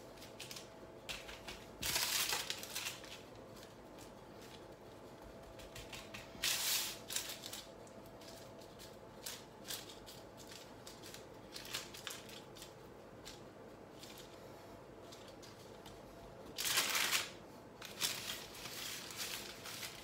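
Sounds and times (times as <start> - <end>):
baking paper crinkling: 0.0 - 20.0.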